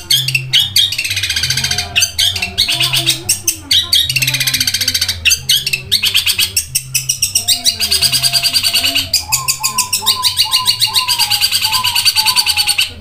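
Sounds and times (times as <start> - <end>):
bird chattering song: 0.0 - 13.0
lower whistled bird notes: 0.0 - 13.0.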